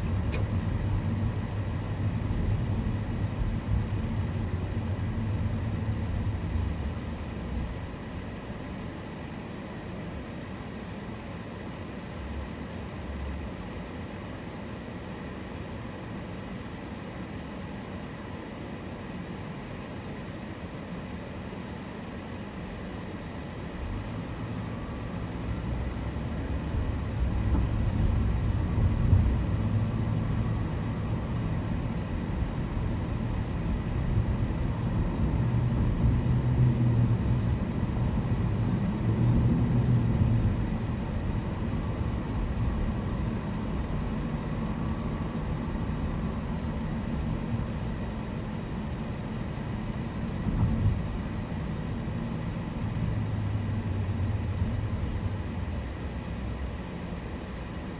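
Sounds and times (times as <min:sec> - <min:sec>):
car engine and road noise: 0:00.0 - 0:57.9.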